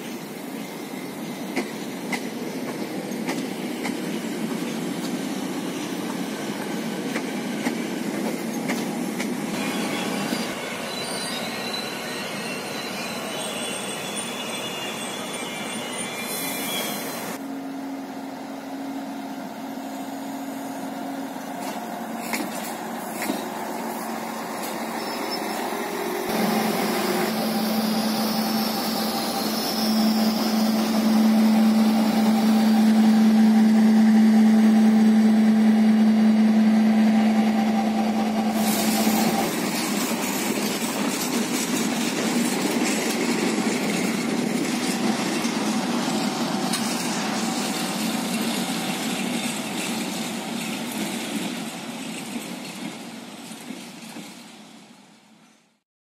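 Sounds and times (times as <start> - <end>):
train wheel squeal: 0.0 - 17.4, 19.8 - 55.8
diesel locomotive engine drone: 0.0 - 55.8
electric train running past: 0.0 - 55.8.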